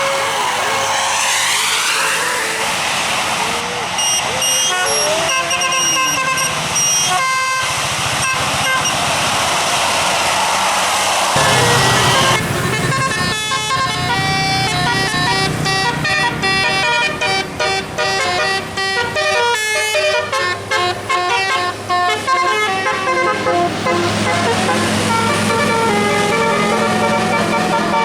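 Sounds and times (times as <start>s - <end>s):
musical air horn melody: 0.0s - 2.2s, 4.0s - 9.0s, 11.4s - 28.0s
bus engine hum: 0.0s - 28.0s.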